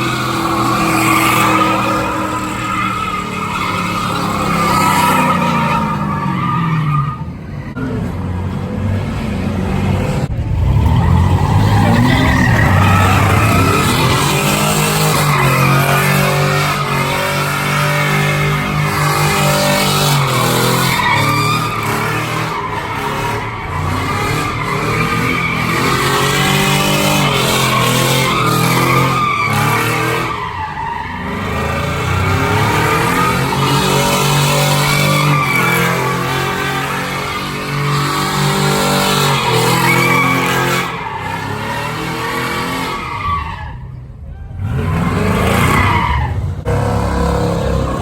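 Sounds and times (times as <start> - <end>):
tyres squealing: 0.0 - 8.0, 10.9 - 46.7
truck engine revving: 0.0 - 48.0.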